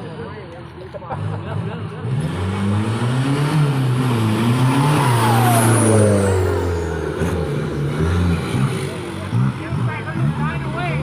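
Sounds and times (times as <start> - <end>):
engine running and revving: 0.9 - 11.0.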